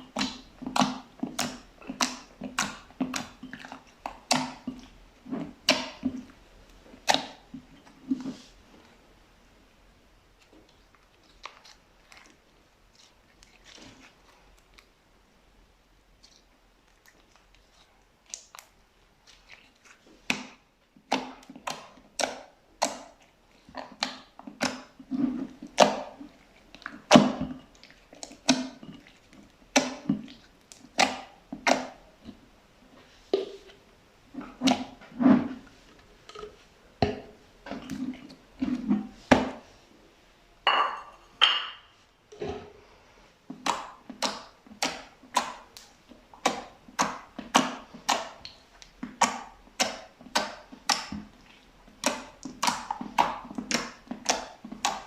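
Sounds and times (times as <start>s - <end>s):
slime squishing: 0.0s - 9.0s, 10.3s - 14.9s, 16.1s - 39.7s, 43.5s - 55.0s.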